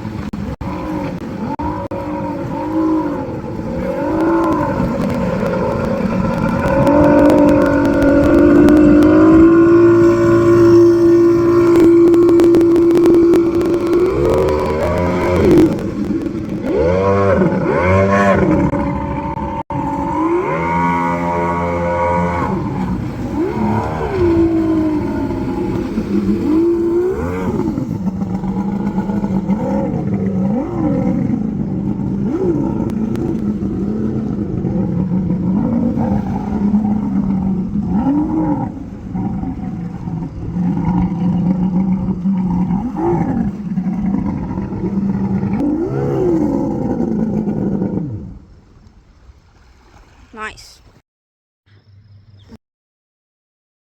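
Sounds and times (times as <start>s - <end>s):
boat engine revving: 0.0s - 48.7s.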